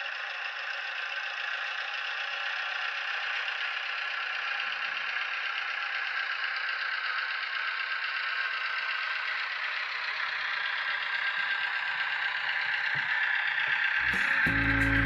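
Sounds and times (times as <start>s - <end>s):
simulated diesel engine sound: 0.0s - 15.0s.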